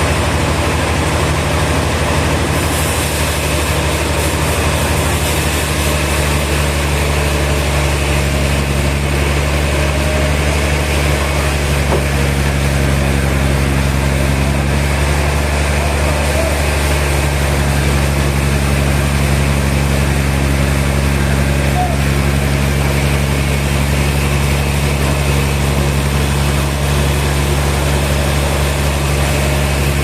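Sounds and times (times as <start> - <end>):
machinery engine humming: 0.0 - 30.0.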